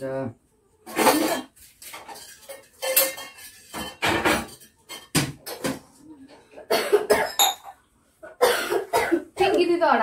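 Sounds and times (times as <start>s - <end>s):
dishes and cutlery clattering: 0.8s - 9.2s.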